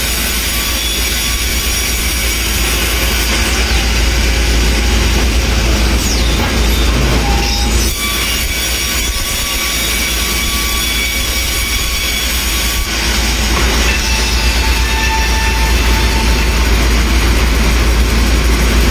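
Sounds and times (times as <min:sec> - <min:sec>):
high-pitched squeals: 0:00.0 - 0:18.1
sawmill machinery running: 0:00.0 - 0:18.9.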